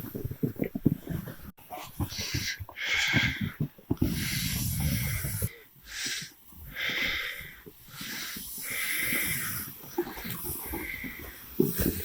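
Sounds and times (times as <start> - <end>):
man breathing heavily: 1.6 - 12.0.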